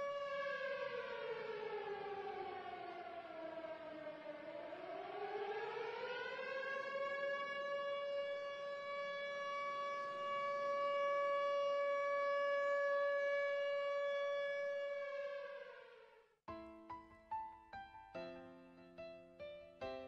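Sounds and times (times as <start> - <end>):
air-raid siren: 0.0 - 16.3.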